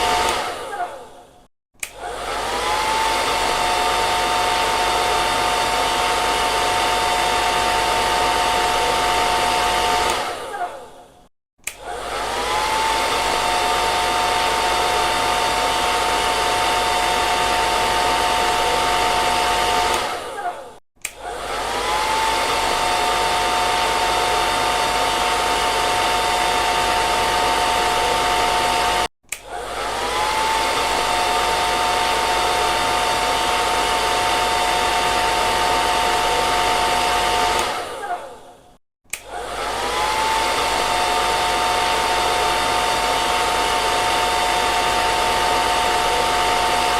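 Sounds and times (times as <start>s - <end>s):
hair dryer blowing: 0.0s - 46.9s.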